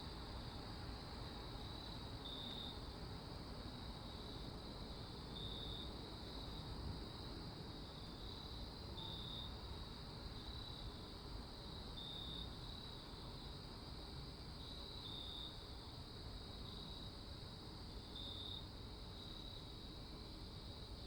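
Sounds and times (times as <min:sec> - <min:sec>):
background hiss: 0:00.0 - 0:21.0
crickets chirping: 0:00.0 - 0:21.0.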